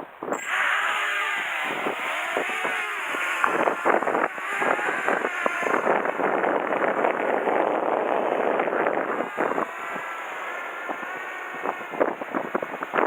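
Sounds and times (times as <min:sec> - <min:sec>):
wind buffeting microphone: 0:00.0 - 0:13.0
electric motors whining: 0:00.2 - 0:13.0.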